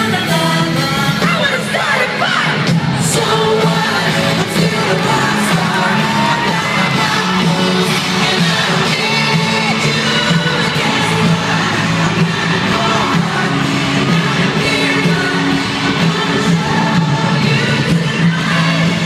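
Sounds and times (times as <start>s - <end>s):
amplified band playing: 0.0s - 19.0s
fans yelling and cheering: 0.0s - 19.0s
lead singer singing: 0.0s - 19.0s.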